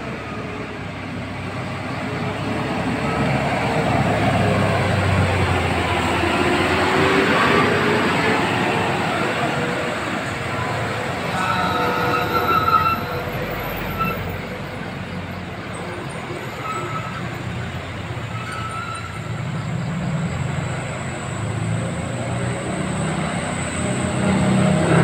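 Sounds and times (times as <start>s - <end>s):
cars driving past: 0.0s - 25.0s
trucks driving past: 0.0s - 25.0s.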